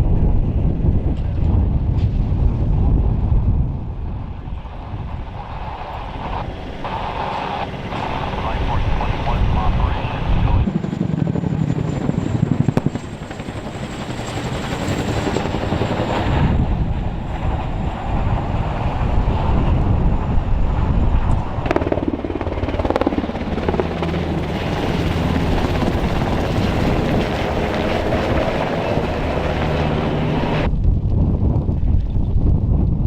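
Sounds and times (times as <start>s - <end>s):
helicopter rotor beating: 0.2s - 30.8s.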